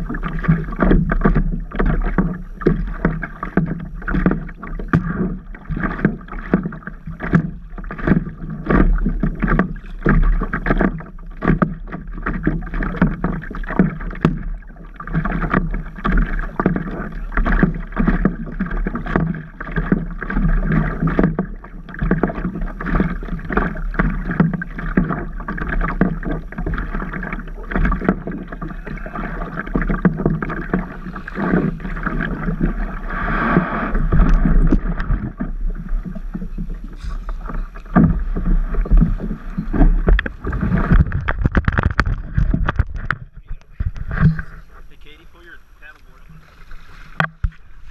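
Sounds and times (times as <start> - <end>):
water splashing against paddleboard: 0.0 - 47.9.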